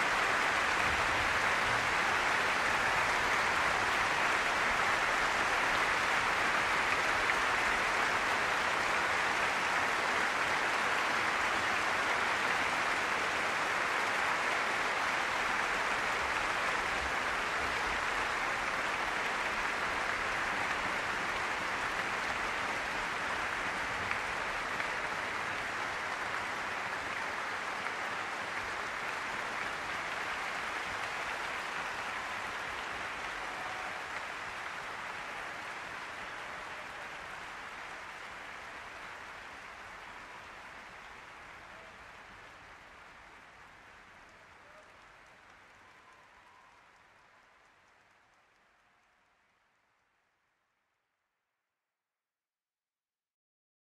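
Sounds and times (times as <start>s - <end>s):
audience applauding: 0.0s - 50.4s.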